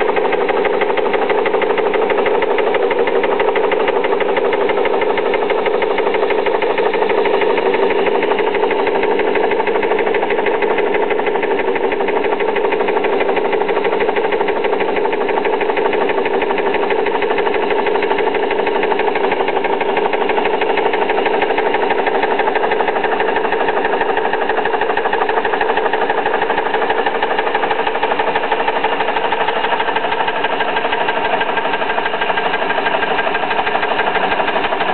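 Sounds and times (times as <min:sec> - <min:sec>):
small steam engine running: 0:00.0 - 0:34.9.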